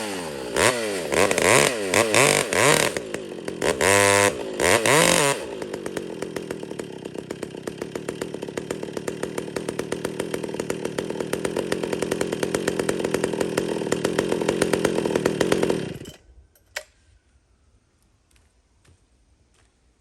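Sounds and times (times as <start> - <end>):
chainsaw running: 0.0 - 16.9.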